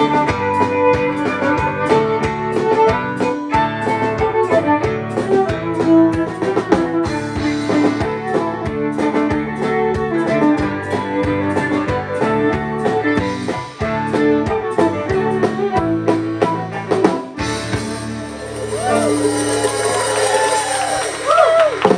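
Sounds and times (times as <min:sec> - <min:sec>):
acoustic guitar: 0:00.0 - 0:21.9
drum kit beat: 0:00.0 - 0:21.9
electric guitar: 0:00.0 - 0:21.9
fiddle: 0:00.0 - 0:21.9.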